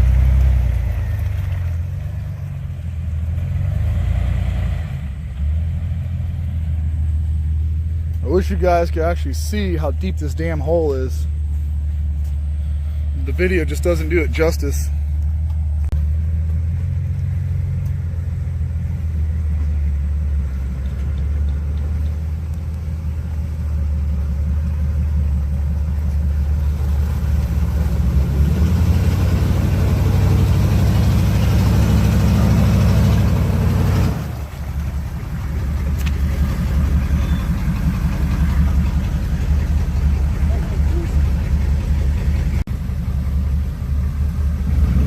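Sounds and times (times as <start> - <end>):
off-road vehicle engine revving: 0.0 - 11.4, 12.2 - 45.0.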